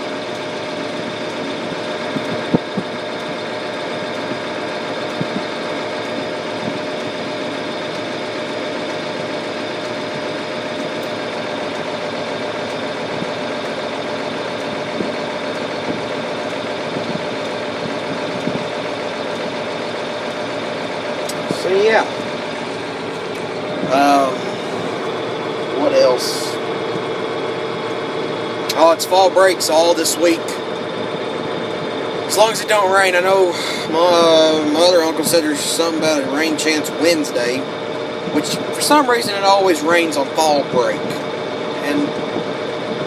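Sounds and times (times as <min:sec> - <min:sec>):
tractor diesel engine drone: 0:00.0 - 0:43.0.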